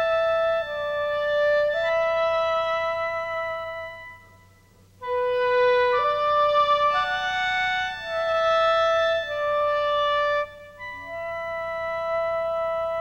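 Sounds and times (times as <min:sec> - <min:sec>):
slow woodwind-like melody: 0:00.0 - 0:13.0.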